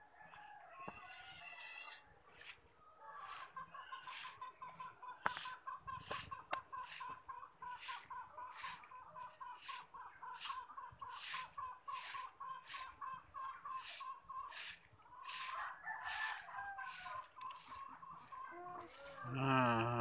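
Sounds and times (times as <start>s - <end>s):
chickens clucking: 0.2s - 20.0s.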